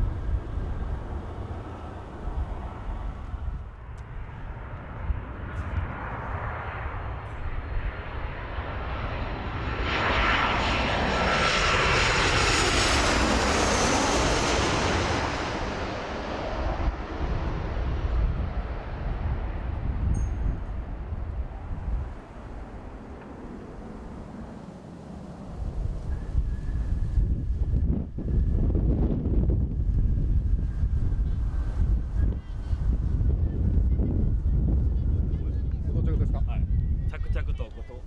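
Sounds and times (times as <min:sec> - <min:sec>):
airliner engines passing overhead: 0:00.0 - 0:38.0.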